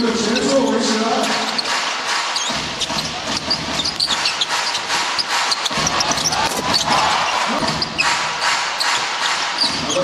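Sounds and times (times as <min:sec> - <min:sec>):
arena noise: 0:00.0 - 0:10.0
sneaker squeaks: 0:00.0 - 0:10.0.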